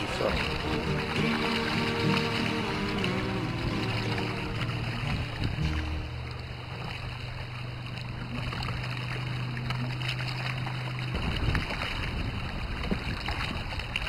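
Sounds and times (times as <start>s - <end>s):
lake water lapping: 0.0s - 14.0s
low steady hum: 0.0s - 14.0s.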